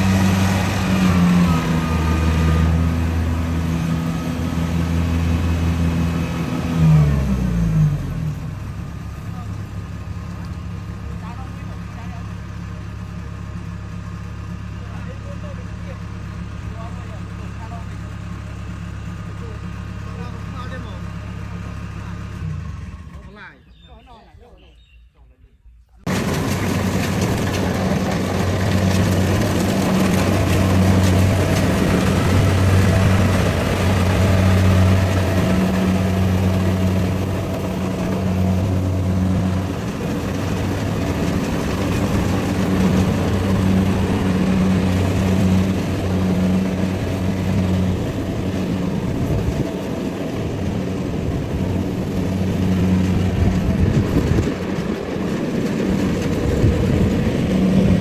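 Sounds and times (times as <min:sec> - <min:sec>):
combine harvester running: 0:00.0 - 0:23.6, 0:26.1 - 0:58.0.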